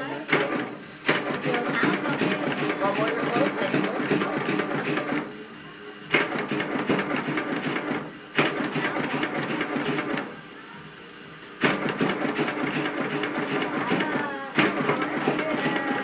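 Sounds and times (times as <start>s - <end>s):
machine clattering rapidly: 0.3s - 5.3s, 6.1s - 10.3s, 11.6s - 16.0s.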